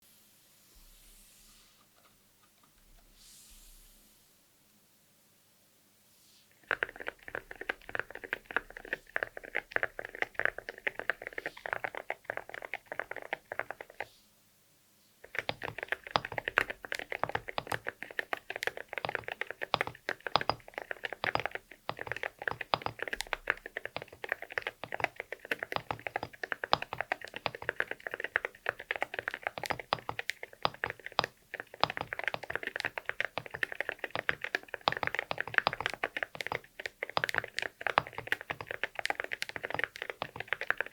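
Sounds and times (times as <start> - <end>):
fast typing on mechanical keyboard: 6.6 - 14.1, 15.2 - 40.9.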